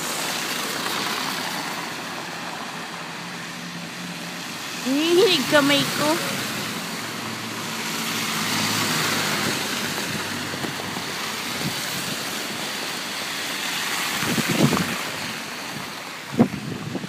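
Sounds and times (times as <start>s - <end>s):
car passing: 0.0s - 17.0s
truck passing: 0.0s - 17.0s.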